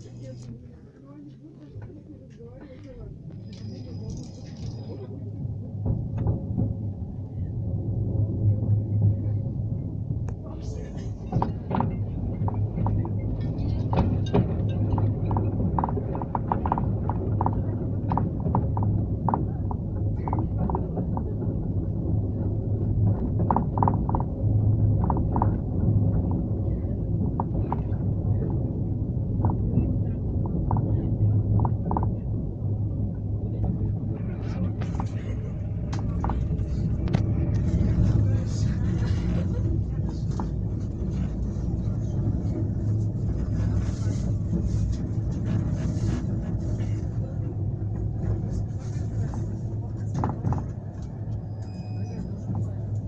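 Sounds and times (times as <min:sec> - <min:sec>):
tram rumble: 0:00.0 - 0:53.0.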